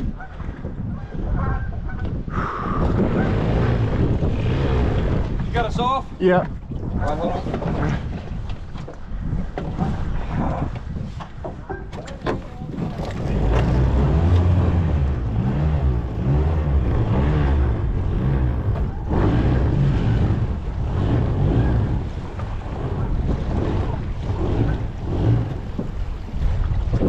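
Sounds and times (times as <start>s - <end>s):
wind buffeting microphone: 0.0s - 27.0s
boat motor running: 0.1s - 27.0s.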